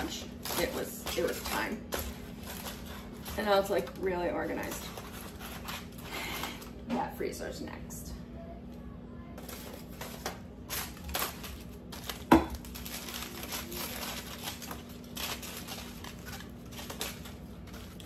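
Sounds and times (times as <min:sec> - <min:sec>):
aluminium foil crinkling: 0:00.0 - 0:06.8, 0:09.3 - 0:18.0.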